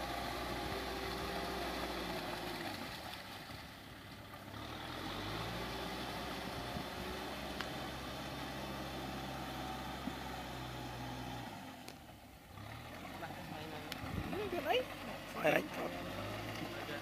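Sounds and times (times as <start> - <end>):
tractor churning through mud: 0.0 - 17.0
tractor diesel engine labouring: 0.0 - 17.0.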